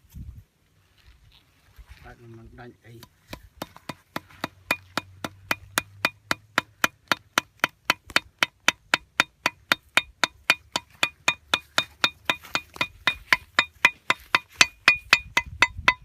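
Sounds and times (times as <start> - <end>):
rhythmic wooden knocks: 3.0 - 16.0.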